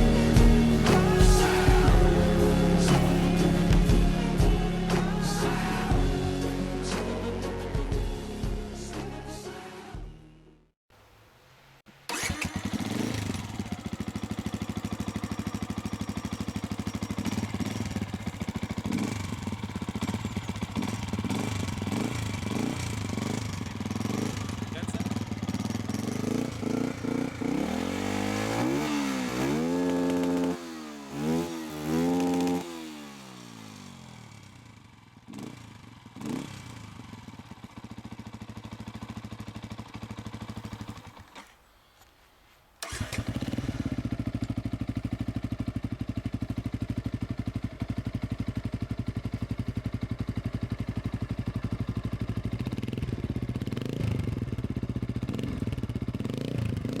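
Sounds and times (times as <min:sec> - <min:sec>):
motorcycle engine idling: 0:00.0 - 0:08.2, 0:12.1 - 0:42.1, 0:42.8 - 0:57.0
motorcycle engine revving: 0:00.0 - 0:08.9, 0:12.1 - 0:41.7, 0:42.8 - 0:57.0.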